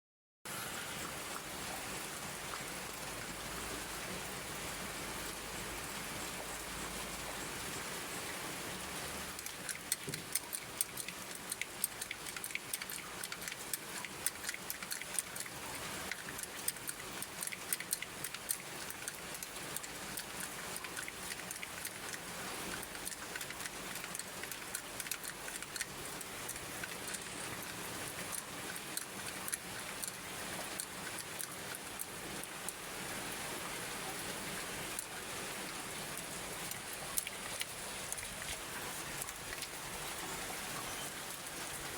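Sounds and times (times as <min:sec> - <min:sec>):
rain falling: 0:00.5 - 0:41.9.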